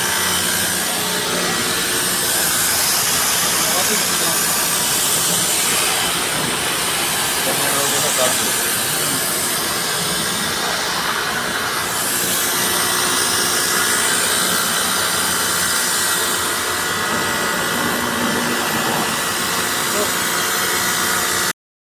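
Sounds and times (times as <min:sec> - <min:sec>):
loud hissing rush: 0:00.0 - 0:21.5.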